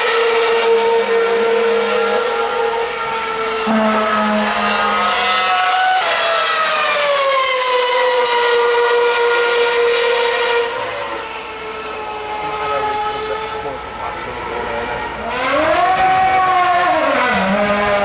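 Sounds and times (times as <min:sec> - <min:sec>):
racing car engine passing: 0:00.0 - 0:18.0.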